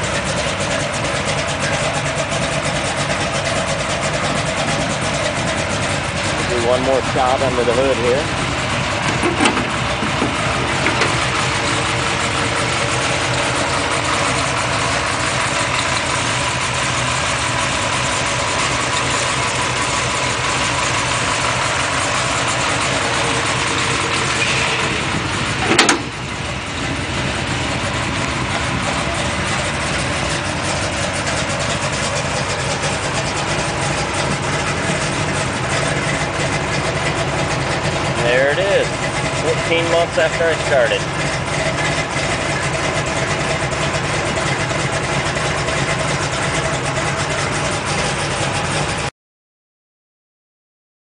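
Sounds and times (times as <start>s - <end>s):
car engine idling: 0.0s - 49.1s.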